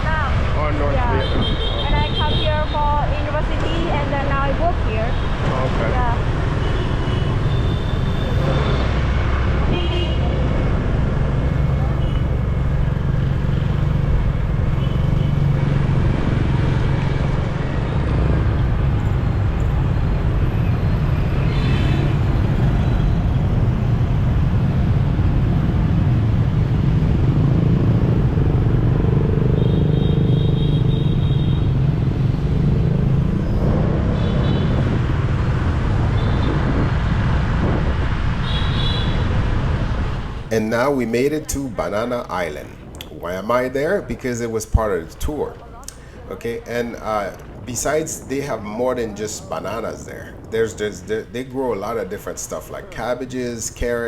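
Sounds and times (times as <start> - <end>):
motorbike engine and road rumble: 0.0 - 54.0.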